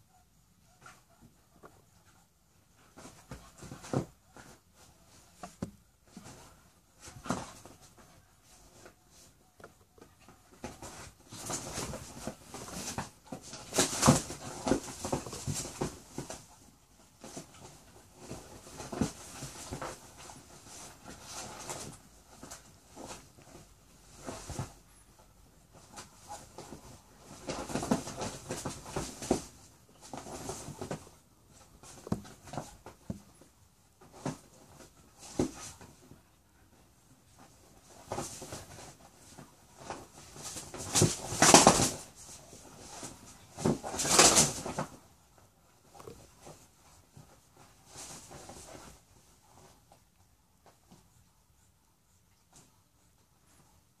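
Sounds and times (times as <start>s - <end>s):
animals scuffling on a couch: 0.6s - 54.0s.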